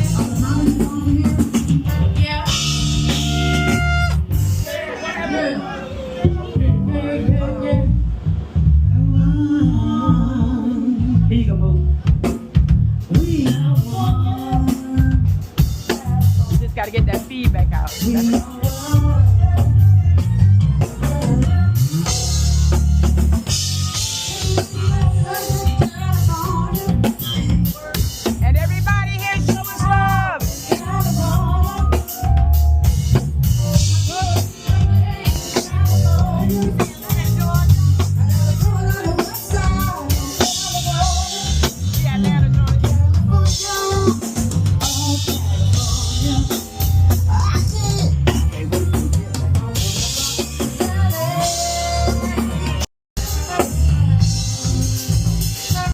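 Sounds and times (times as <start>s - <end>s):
drum kit kick and snare: 0.0s - 4.7s, 12.0s - 55.9s
heavy bass: 0.0s - 55.9s
live band playing: 0.0s - 55.9s.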